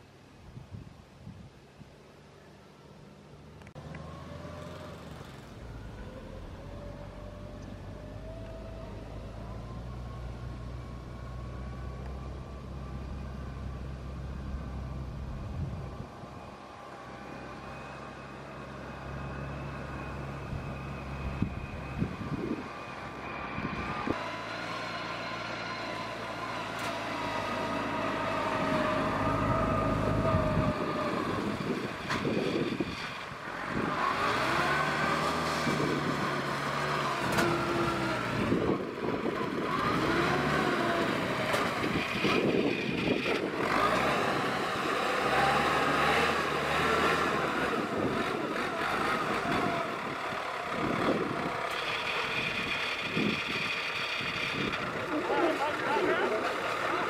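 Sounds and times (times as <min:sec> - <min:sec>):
crawler engine running under load: 0:03.0 - 0:57.0.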